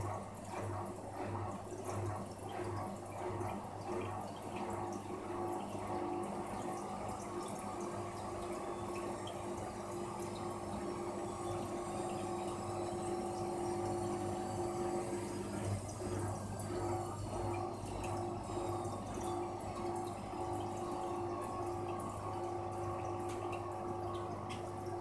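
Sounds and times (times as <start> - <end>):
water trickling: 0.0 - 25.0.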